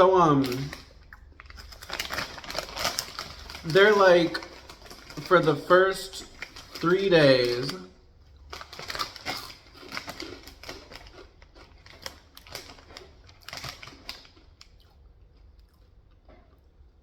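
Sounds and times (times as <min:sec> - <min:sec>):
chewing crunchy food: 0:00.3 - 0:17.0.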